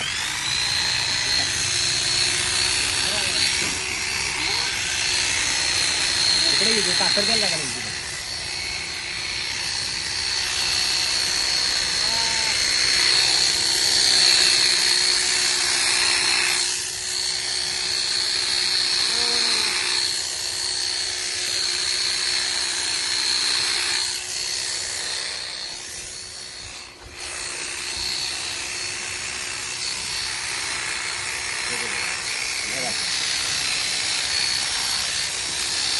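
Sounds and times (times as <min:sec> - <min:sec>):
electric sheep shears whining: 0:00.0 - 0:35.9.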